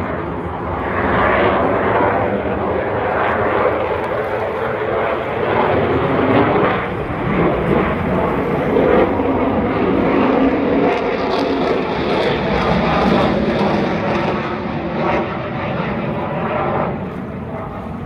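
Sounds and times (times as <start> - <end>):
aircraft engine rushing: 0.0 - 18.0.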